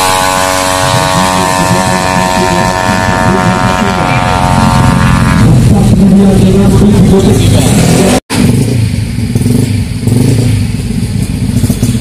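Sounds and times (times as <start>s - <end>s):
scooter engine at full throttle: 0.0s - 12.0s.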